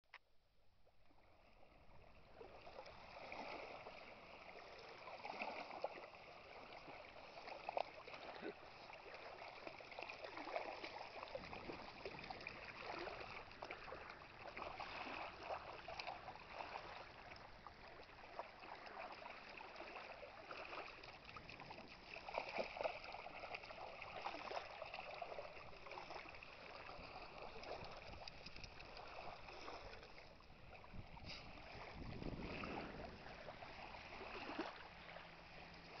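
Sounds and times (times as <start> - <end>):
dog wading in shallow water: 0.5 - 36.0.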